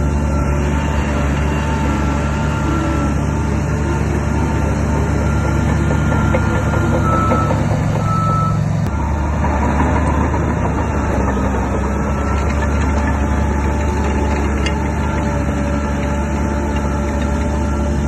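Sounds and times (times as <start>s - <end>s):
heavy machinery diesel engine: 0.0s - 18.0s
reversing alarm beeping: 0.1s - 18.0s.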